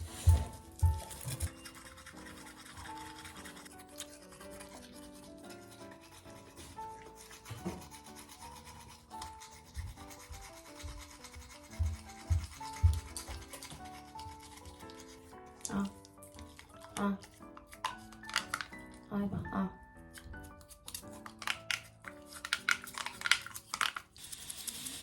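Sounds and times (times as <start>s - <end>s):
toothbrush scrubbing teeth: 0.0s - 19.1s, 19.8s - 25.0s
light background music: 0.0s - 25.0s.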